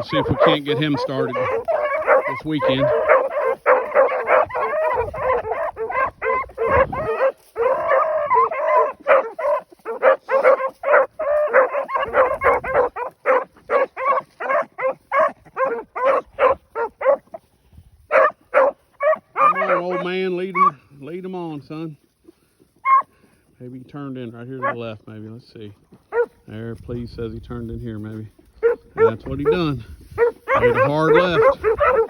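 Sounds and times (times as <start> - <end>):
hounds baying and barking: 0.0 - 23.3, 24.4 - 25.0, 25.8 - 26.5, 28.3 - 32.0.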